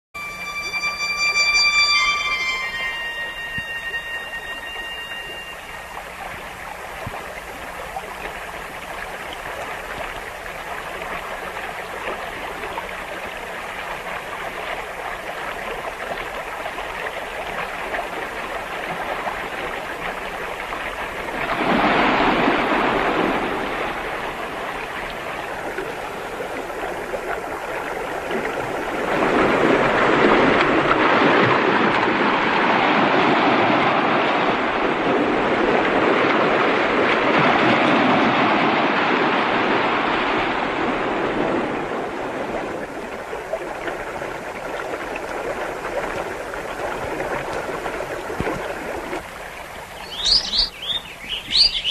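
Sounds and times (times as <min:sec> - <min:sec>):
rushing white water: 0:00.2 - 0:51.9.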